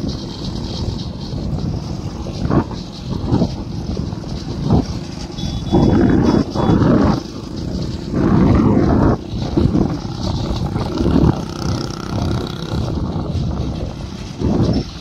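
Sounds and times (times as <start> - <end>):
carts and motorcycles passing: 0.0 - 15.0.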